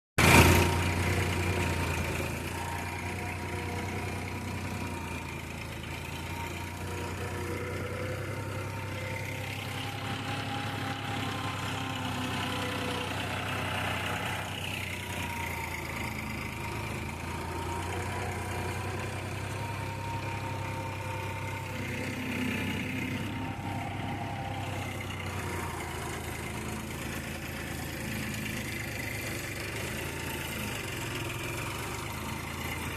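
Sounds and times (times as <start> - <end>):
tractor diesel engine running: 0.2 - 32.9.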